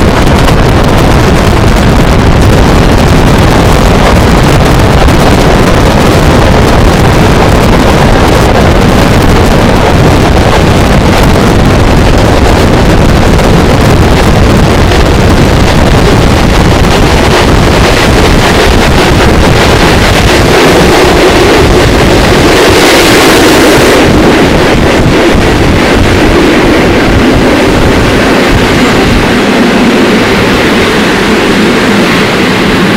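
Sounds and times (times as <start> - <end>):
train rumbling: 0.0 - 32.9
wind buffeting microphone: 0.0 - 32.9.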